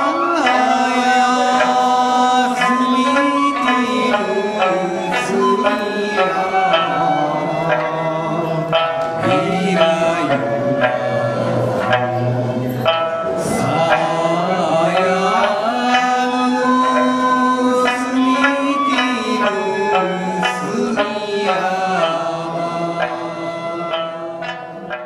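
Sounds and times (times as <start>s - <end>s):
men singing folk song: 0.0s - 25.0s
plucked lute: 0.0s - 25.0s.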